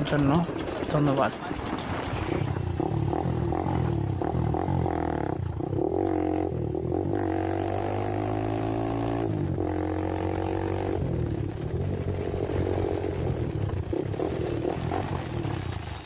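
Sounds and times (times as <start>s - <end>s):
motorcycle engine running: 2.4s - 16.0s.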